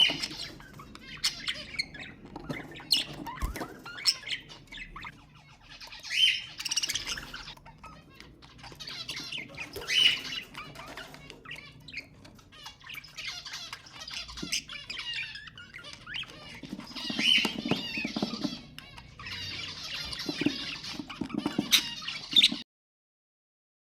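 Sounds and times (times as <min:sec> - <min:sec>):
budgerigars chattering and squawking: 0:00.0 - 0:22.6.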